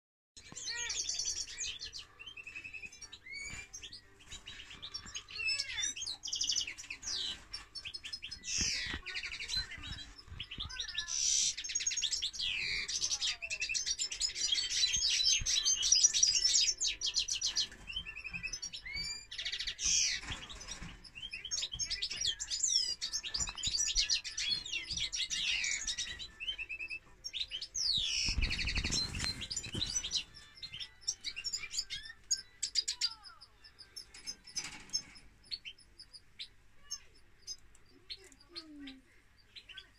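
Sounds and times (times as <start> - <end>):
songbirds singing trills: 0.4 - 39.9.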